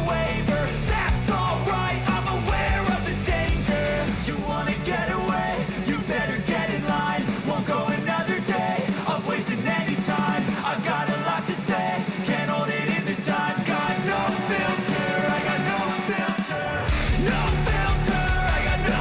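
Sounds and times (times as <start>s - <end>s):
upbeat rock music with guitar: 0.0s - 19.0s.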